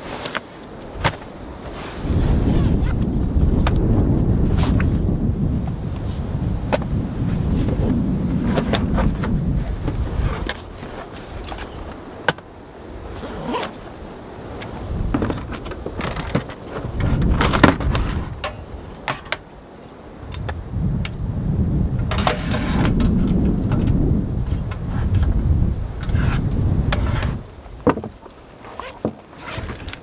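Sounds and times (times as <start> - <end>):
strong wind gusting: 0.8 - 28.2.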